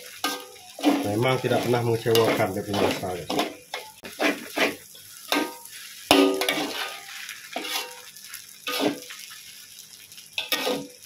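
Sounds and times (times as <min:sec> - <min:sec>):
metal spatulas scraping a wok: 0:00.0 - 0:09.2, 0:10.4 - 0:11.0.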